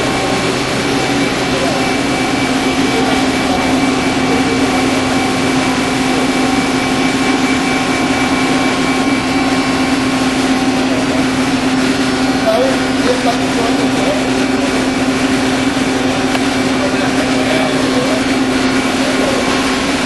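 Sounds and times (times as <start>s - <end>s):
wire cutting machine humming: 0.0s - 20.0s.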